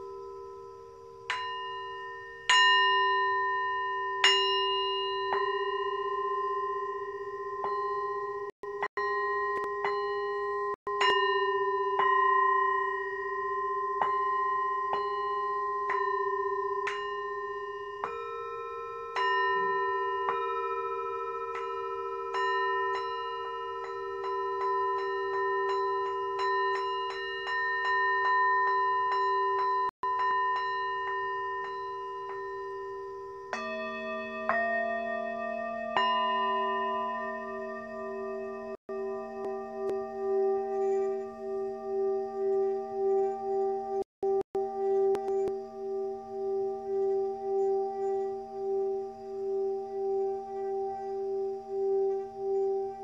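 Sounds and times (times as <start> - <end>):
lower-pitched singing bowl: 0.0 - 53.0
singing bowls ringing: 0.0 - 53.0.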